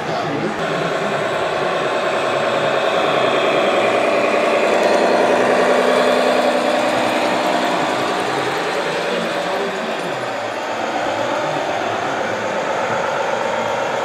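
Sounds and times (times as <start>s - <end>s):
toy truck motor drone: 0.0s - 14.0s.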